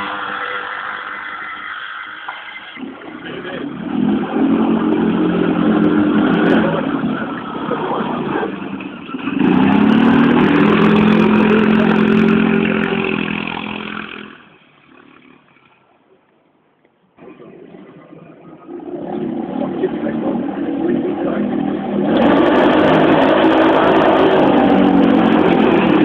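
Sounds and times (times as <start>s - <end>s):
motorcycle engine accelerating: 0.0s - 1.9s, 2.8s - 15.7s, 17.2s - 26.0s.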